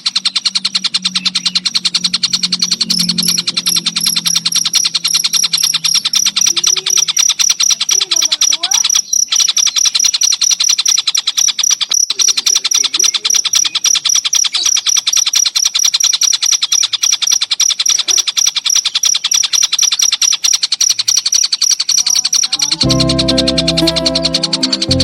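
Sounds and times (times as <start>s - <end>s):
cricket chirping: 0.0s - 22.8s.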